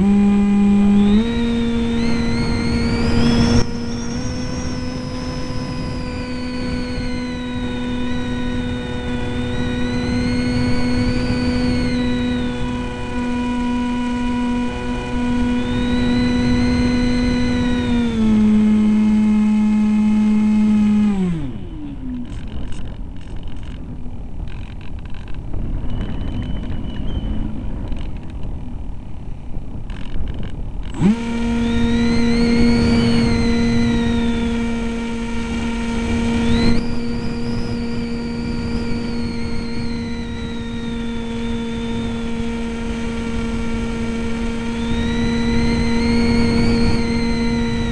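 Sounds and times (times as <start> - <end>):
electric motor and propeller whine: 0.0 - 47.9.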